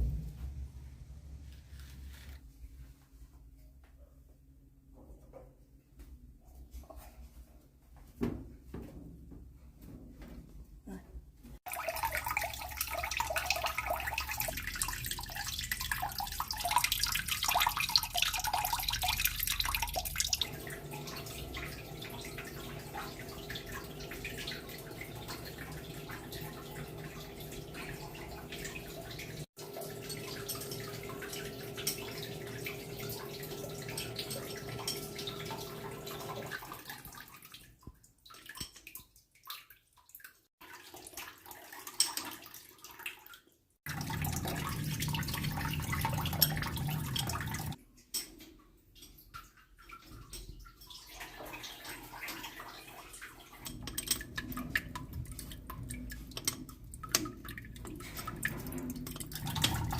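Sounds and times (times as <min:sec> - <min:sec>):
water splashing and dripping: 0:11.6 - 0:59.9.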